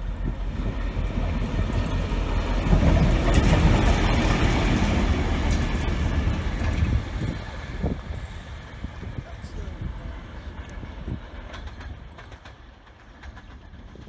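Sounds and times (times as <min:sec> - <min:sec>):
locomotive engine rumble: 0:00.0 - 0:14.0
train wheels on rails: 0:00.0 - 0:14.0.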